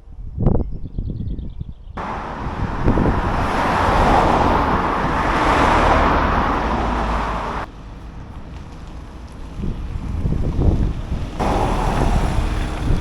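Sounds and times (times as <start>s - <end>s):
vehicle passing close by: 2.0s - 13.0s.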